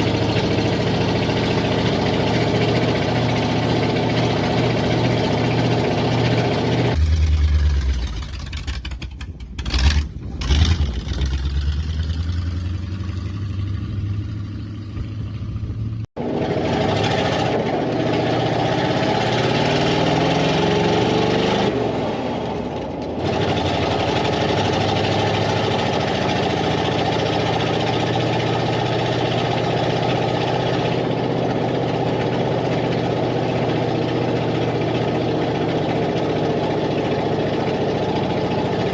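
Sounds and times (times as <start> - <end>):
pickup truck engine driving: 0.0 - 38.9.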